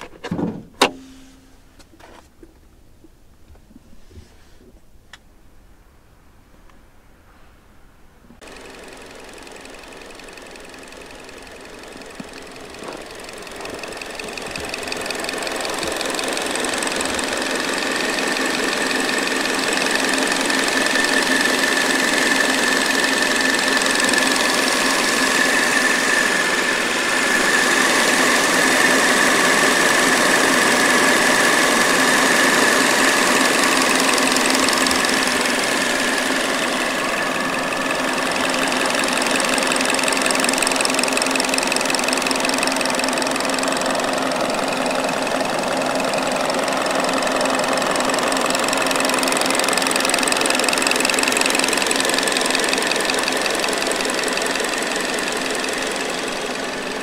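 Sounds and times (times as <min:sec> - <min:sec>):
car engine idling: 0:08.4 - 0:57.0.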